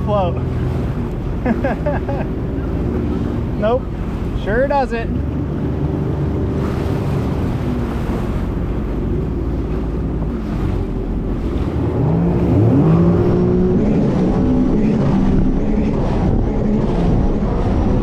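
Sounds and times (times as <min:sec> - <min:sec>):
jet ski engine revving: 0:00.0 - 0:18.0
rushing water: 0:00.0 - 0:18.0
wind on microphone: 0:00.0 - 0:18.0.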